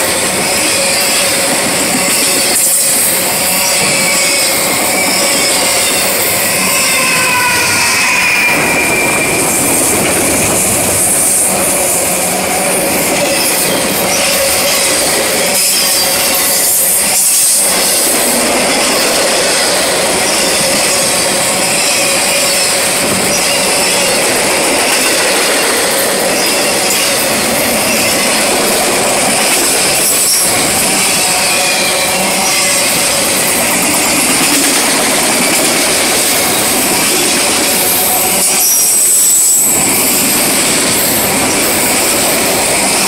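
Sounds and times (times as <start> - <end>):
steel wheels on rail: 0.0 - 43.0.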